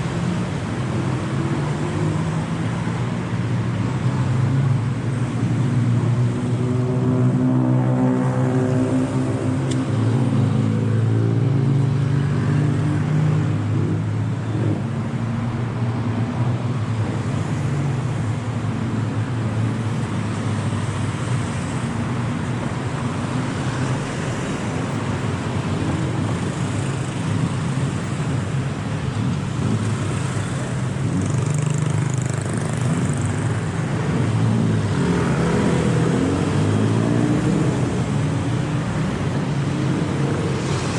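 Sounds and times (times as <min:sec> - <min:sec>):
road traffic: 0:00.0 - 0:40.9.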